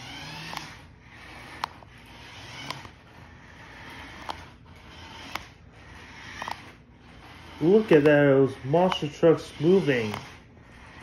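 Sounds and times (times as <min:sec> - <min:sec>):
toy truck electric motors whirring: 0:00.0 - 0:11.0.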